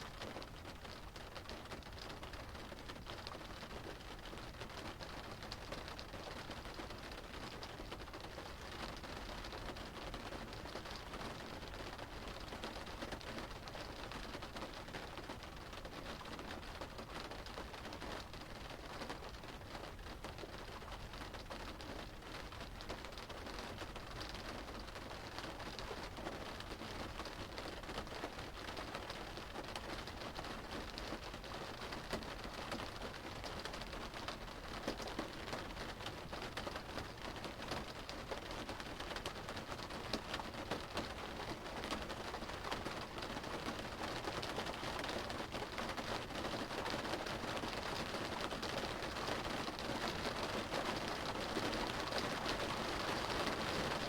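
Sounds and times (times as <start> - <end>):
rain drumming on car roof: 0.2 - 54.0.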